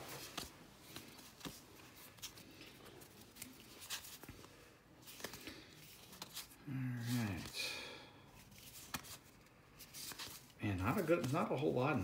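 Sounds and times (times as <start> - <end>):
cards being flipped through: 0.0 - 7.6, 8.4 - 11.5.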